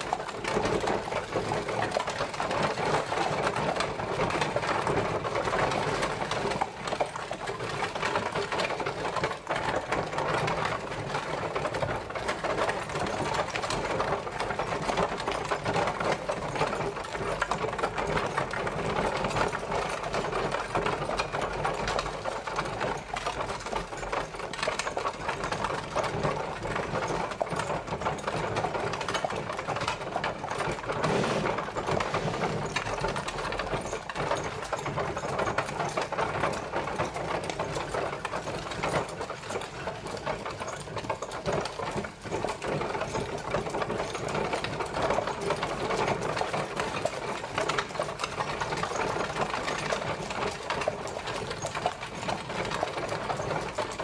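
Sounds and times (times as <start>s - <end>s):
carriage wheels rattling: 0.0s - 54.0s.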